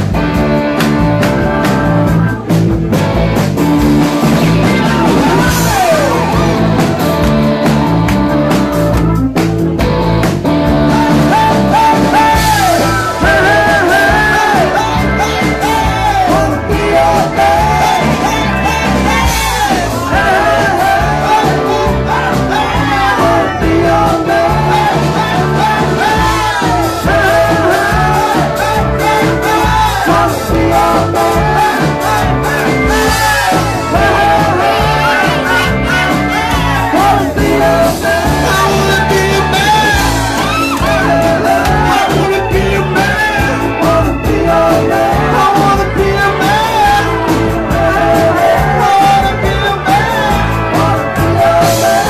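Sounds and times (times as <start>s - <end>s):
live band playing: 0.0s - 52.0s
person singing: 4.0s - 9.2s, 10.4s - 52.0s.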